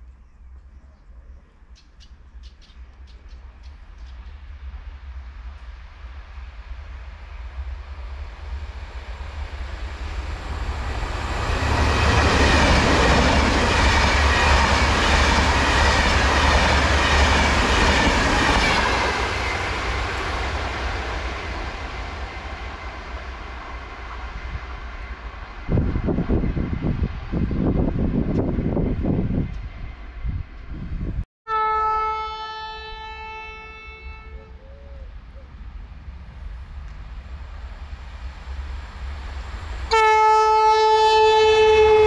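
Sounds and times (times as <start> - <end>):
train passing at speed: 1.6 - 31.3, 32.0 - 42.0.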